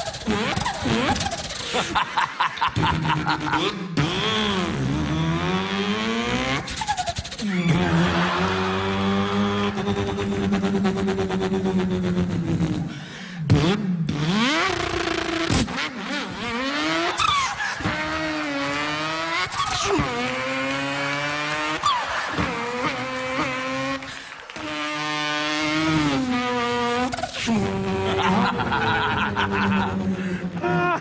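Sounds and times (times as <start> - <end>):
man imitating car engine: 0.0 - 31.0.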